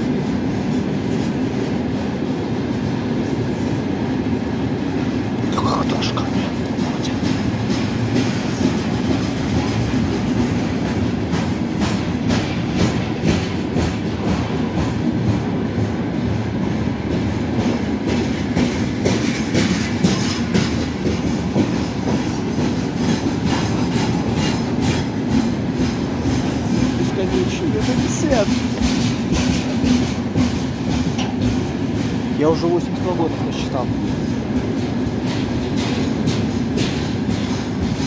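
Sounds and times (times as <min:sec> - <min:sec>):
train wheels rumbling on rails: 0:00.0 - 0:38.0
wheels clacking over rail joints: 0:06.3 - 0:38.0.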